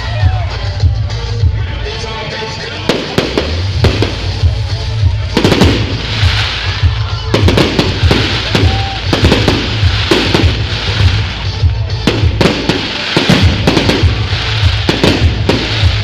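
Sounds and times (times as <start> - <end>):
music with pulsing bass beat: 0.0 - 16.0
fireworks bangs and crackling: 2.1 - 16.0.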